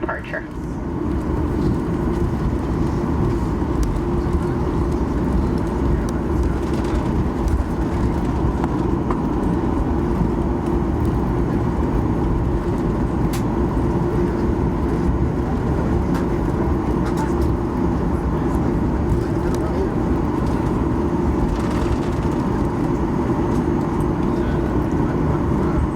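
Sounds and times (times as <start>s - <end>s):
airplane cabin rumble and hum: 0.0s - 25.9s.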